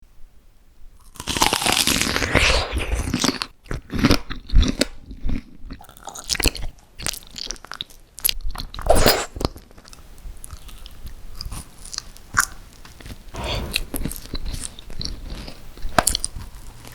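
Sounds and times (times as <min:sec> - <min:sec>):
crunchy bites and chewing: 0:01.0 - 0:16.9.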